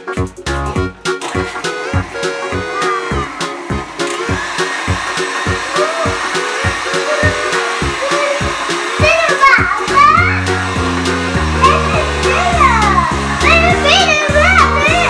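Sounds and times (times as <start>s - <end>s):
background music with steady beat: 0.0s - 15.0s
stand mixer motor whirring: 1.1s - 15.0s.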